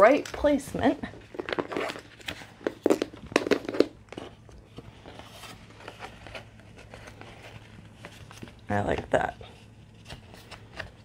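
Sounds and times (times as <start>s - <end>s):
cardboard rustling: 0.0s - 11.0s.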